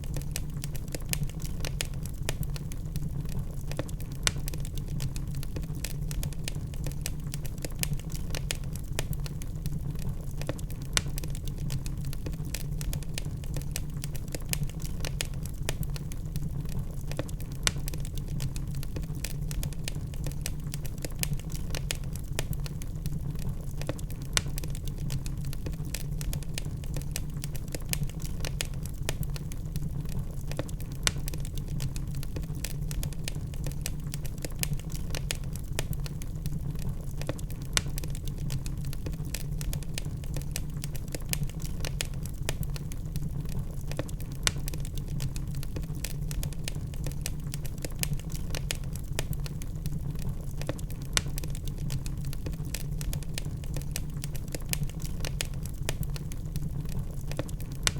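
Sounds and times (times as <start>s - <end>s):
log fire crackling: 0.0s - 57.9s.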